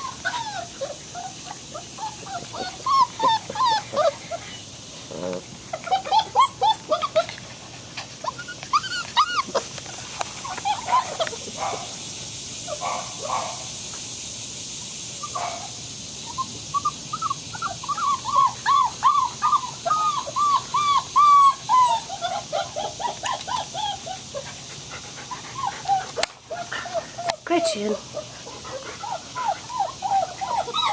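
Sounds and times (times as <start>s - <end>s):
puppies whimpering and yipping: 0.0s - 11.9s, 16.3s - 30.9s.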